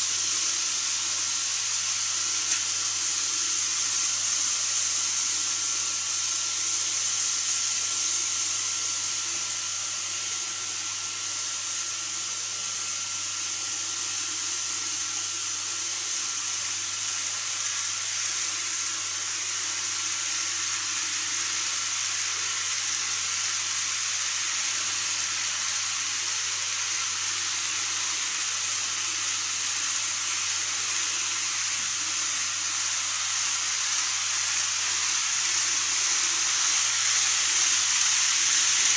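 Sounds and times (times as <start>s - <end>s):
model train running: 0.0s - 38.9s.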